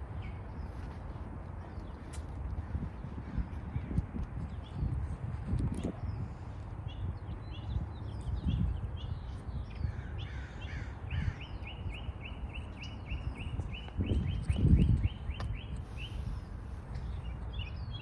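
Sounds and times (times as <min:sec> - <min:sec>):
steady low rumble: 0:00.0 - 0:18.0
small birds chirping: 0:00.2 - 0:05.0, 0:05.8 - 0:18.0.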